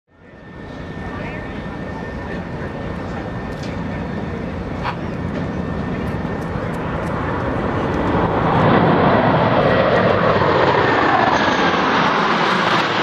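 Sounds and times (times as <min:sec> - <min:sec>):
jet engines flying overhead: 0:00.1 - 0:13.0.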